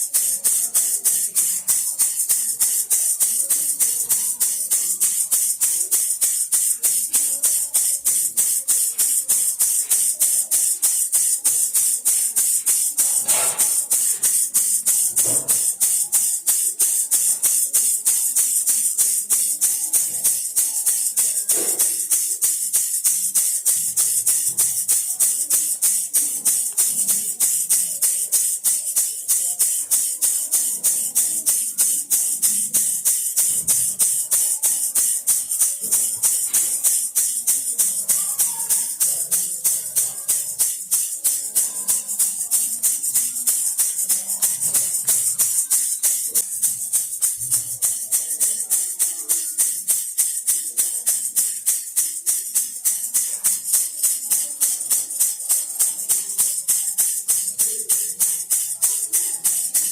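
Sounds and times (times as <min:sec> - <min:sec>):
baby rattle shaking: 0:00.0 - 0:59.9.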